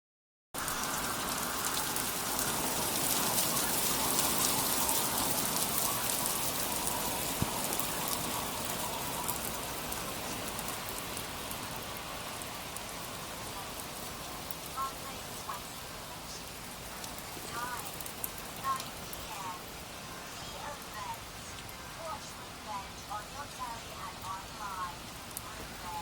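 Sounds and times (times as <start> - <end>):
steady rain falling: 0.6 - 26.0.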